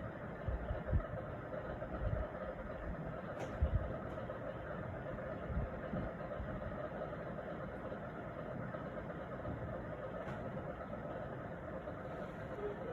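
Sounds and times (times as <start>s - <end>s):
condensate pump droning: 0.0s - 12.9s.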